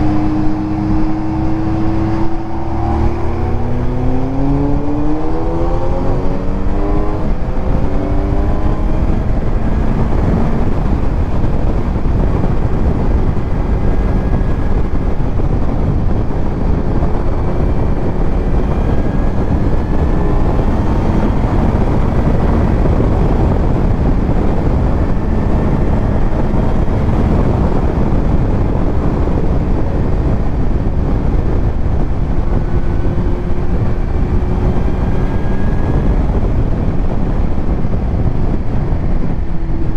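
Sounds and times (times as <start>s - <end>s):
heavy wind rush: 0.0s - 39.9s
motorcycle engine cruising: 0.0s - 39.9s.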